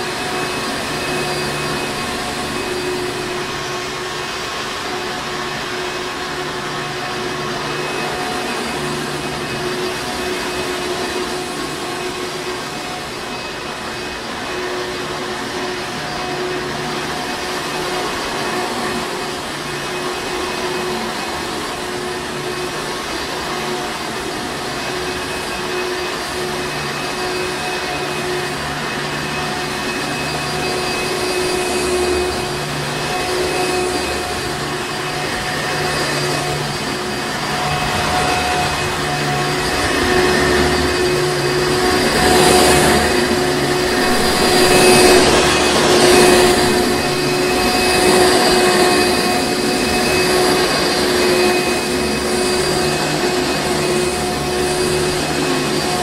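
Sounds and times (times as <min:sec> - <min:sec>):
upright vacuum cleaner running: 0:00.0 - 0:56.0.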